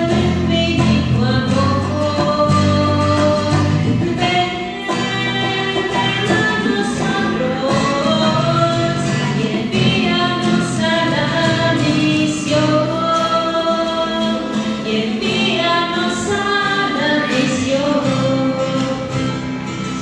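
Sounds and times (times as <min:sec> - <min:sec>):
woman singing a hymn: 0:00.0 - 0:19.4
strummed acoustic guitar: 0:00.0 - 0:20.0.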